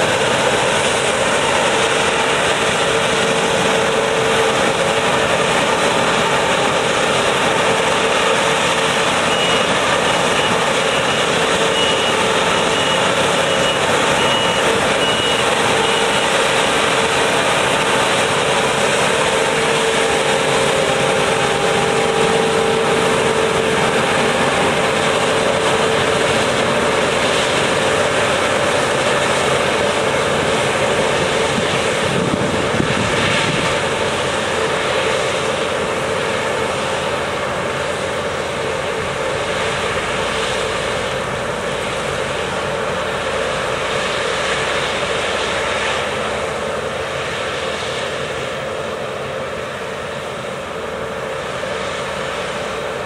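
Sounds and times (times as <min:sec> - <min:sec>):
combine harvester droning: 0:00.0 - 0:53.0.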